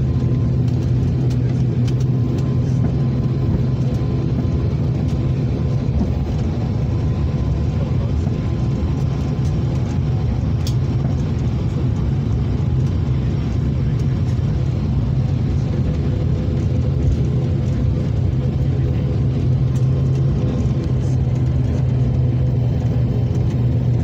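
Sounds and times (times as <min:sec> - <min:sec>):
turboprop engines droning: 0:00.0 - 0:24.0.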